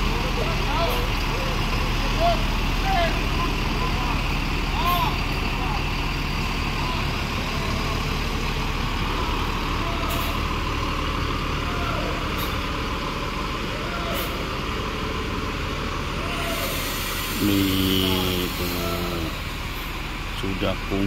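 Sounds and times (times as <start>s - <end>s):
diesel engine humming: 0.0s - 21.0s.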